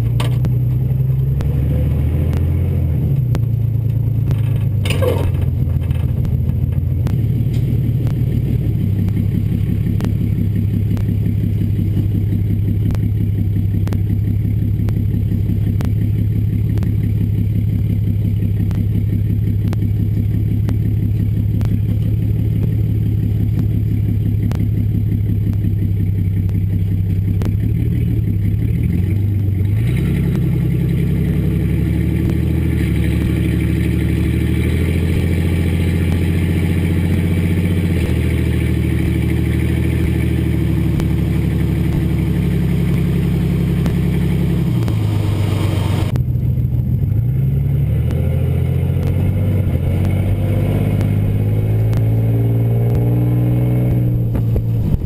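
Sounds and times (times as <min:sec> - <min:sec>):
truck exhaust note: 0:00.0 - 0:55.0
tyre and road noise: 0:00.0 - 0:55.0.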